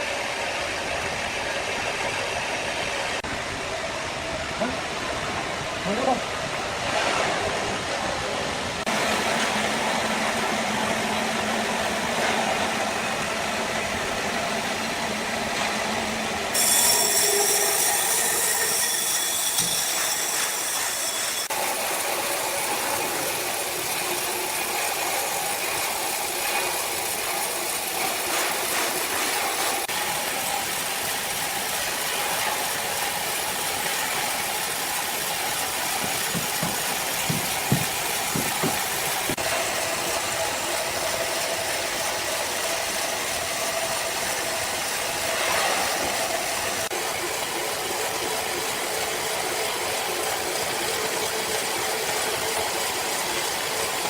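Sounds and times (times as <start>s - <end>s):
sawmill machinery rattling: 8.8s - 54.0s.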